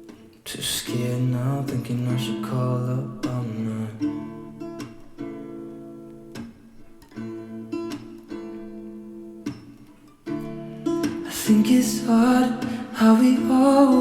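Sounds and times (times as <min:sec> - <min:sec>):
pop music with acoustic guitar: 0:00.0 - 0:14.0.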